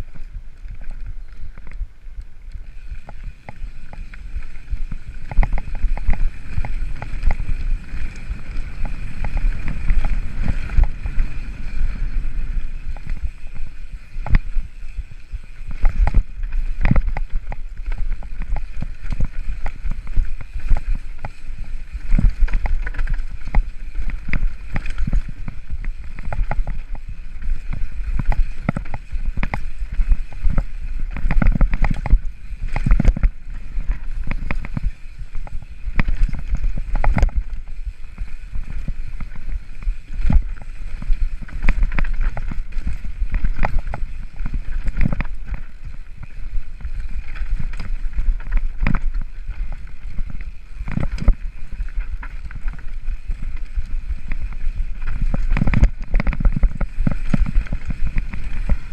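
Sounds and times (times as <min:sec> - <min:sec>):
wind buffeting microphone: 0:00.0 - 0:58.9
bike rattles and knocks: 0:02.7 - 0:58.9
tyres rolling over dirt and stones: 0:02.7 - 0:58.9.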